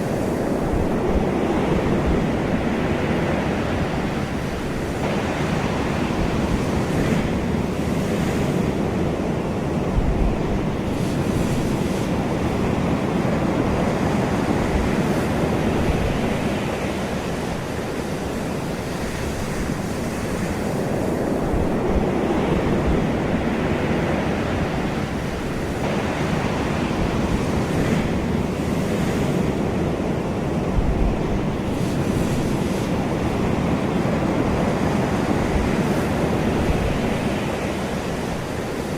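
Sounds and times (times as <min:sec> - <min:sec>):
wind thumps on microphone: 0:00.0 - 0:17.9, 0:18.8 - 0:38.9
ocean surf washing ashore: 0:00.0 - 0:38.9.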